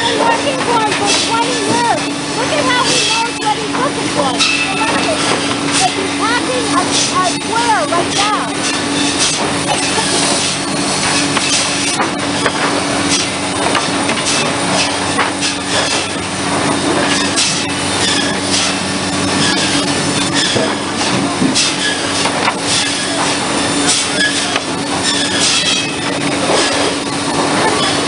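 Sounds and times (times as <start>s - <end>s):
clattering of wood and metal: 0.0s - 28.0s
mill machinery humming: 0.0s - 28.0s.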